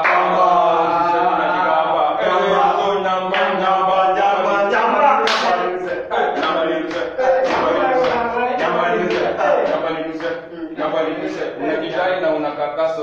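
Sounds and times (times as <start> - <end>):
men chanting a cappella: 0.0 - 13.0.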